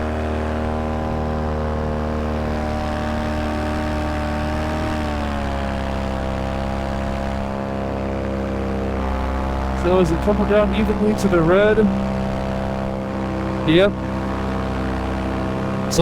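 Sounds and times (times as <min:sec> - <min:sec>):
paramotor engine and propeller: 0:00.0 - 0:16.0.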